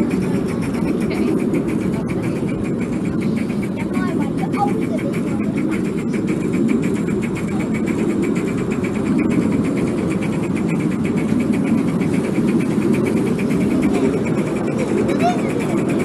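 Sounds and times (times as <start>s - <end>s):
model steam locomotive chuffing: 0.0s - 16.0s.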